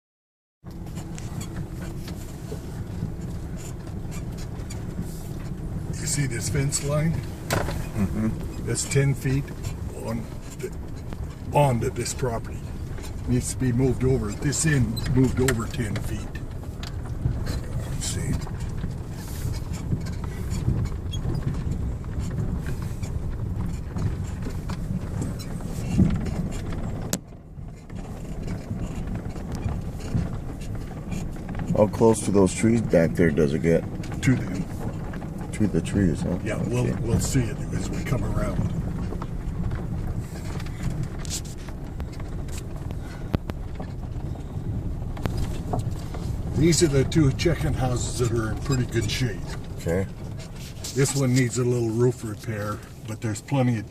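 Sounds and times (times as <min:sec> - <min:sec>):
vehicle driving over rough ground: 0:00.6 - 0:53.9
small rattles: 0:00.7 - 0:53.9.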